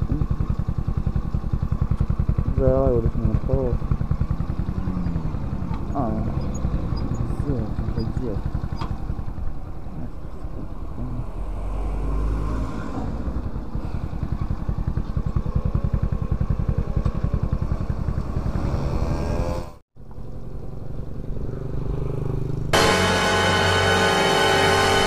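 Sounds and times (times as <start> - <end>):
moped engine running: 0.0 - 25.0.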